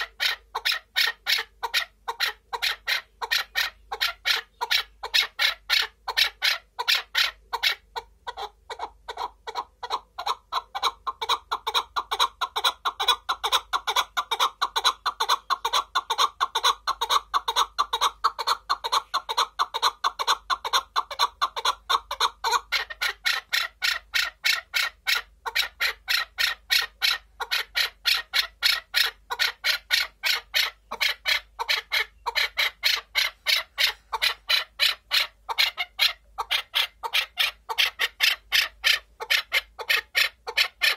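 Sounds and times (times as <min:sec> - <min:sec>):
partridge clucking calls: 0:00.0 - 0:40.9.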